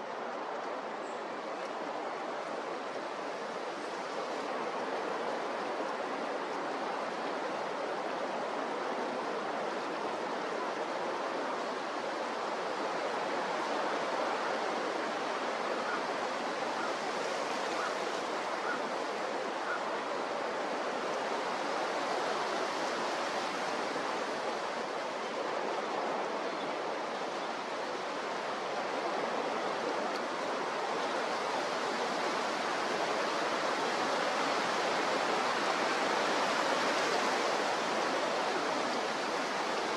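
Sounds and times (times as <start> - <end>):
waves rushing: 0.0 - 39.9.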